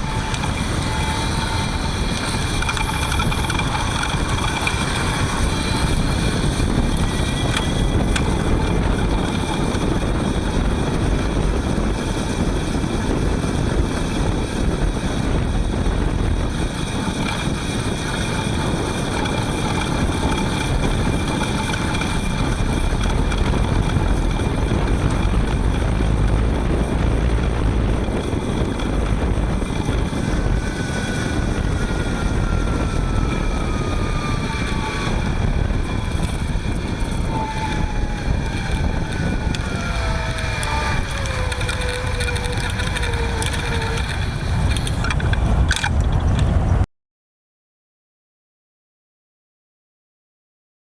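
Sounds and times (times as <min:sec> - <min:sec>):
bicycle hub motor whining: 0:00.0 - 0:46.8
road noise: 0:00.0 - 0:46.8
wind: 0:00.0 - 0:46.9.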